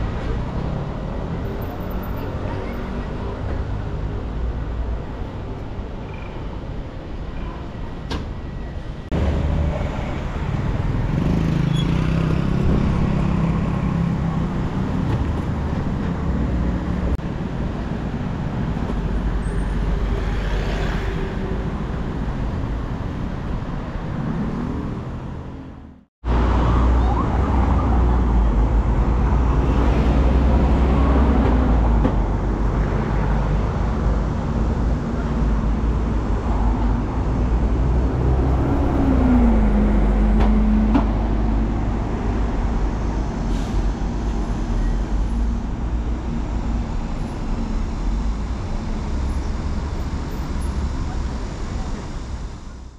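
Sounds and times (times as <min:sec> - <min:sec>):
city street traffic: 0:00.0 - 0:52.9.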